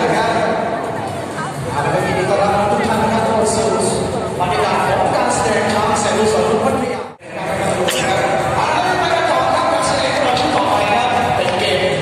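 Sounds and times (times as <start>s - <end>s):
music echoing in a hall: 0.0s - 12.0s
person's voice: 0.0s - 12.0s.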